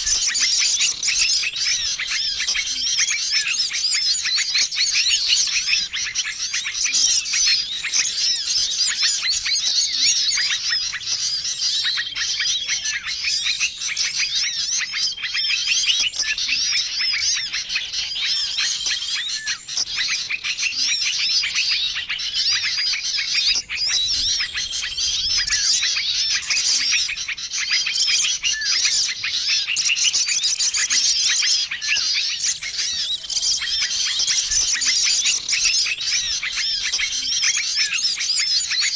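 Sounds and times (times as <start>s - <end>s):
songbirds chirping and chattering: 0.0s - 38.9s.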